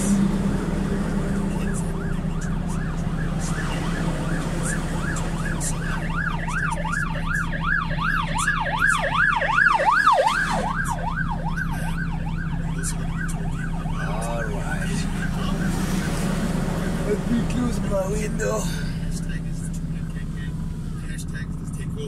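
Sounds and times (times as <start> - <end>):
emergency siren yelping: 0.0 - 21.1
truck engine idling: 0.0 - 22.0.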